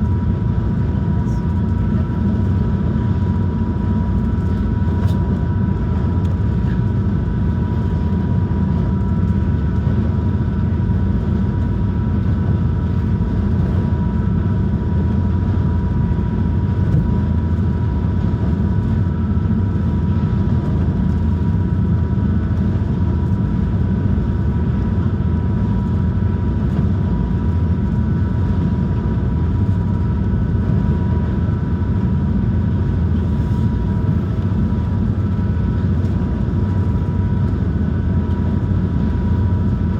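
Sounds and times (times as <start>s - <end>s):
boat engine drone: 0.0s - 39.9s.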